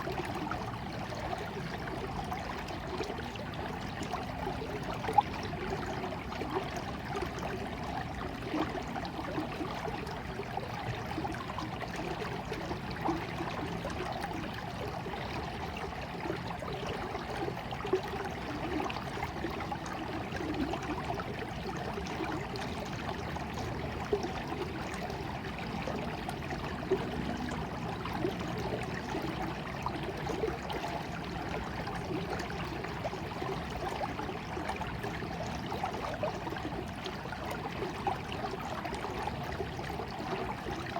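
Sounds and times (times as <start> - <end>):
water flowing: 0.0 - 40.9
water splashes: 0.0 - 40.9.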